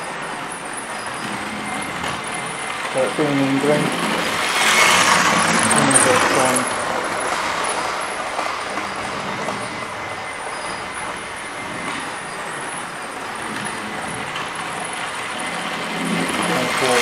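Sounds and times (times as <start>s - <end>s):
model trains whirring and rattling: 0.0s - 17.0s.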